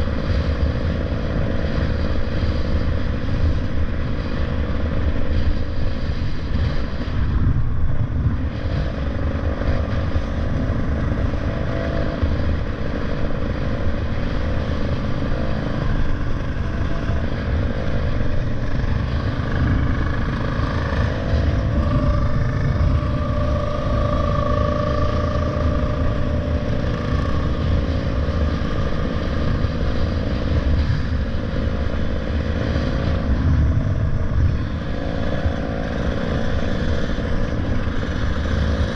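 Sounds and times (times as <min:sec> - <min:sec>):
high whine: 0:00.0 - 0:38.9
motorcycle engine drone: 0:00.0 - 0:38.9
wind buffeting microphone: 0:00.0 - 0:38.9.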